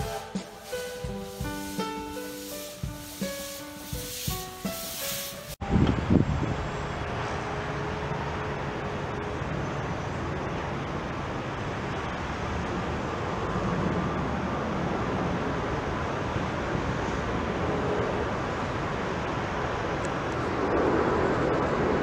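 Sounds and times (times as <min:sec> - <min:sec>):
distant jet rumble: 0:00.0 - 0:22.0.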